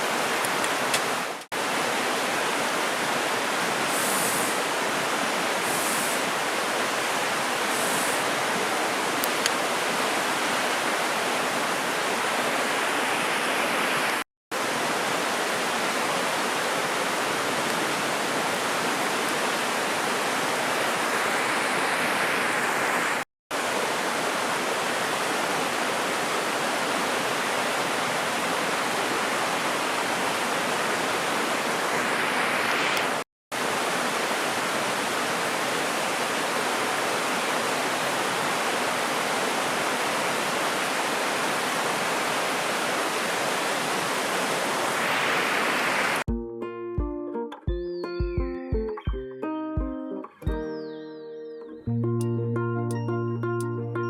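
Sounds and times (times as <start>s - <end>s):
river rushing over rocks: 0.0s - 46.3s.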